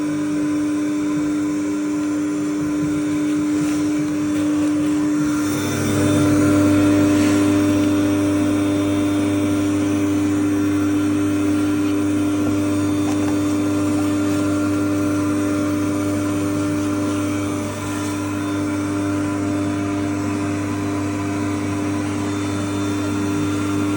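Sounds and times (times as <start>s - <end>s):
vacuum cleaner running: 0.0s - 23.9s.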